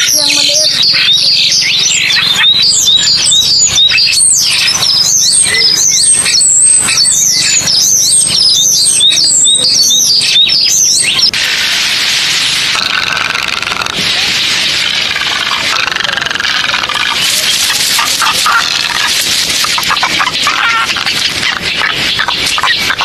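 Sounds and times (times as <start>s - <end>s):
birds chirping: 0.0s - 11.4s, 12.6s - 23.0s.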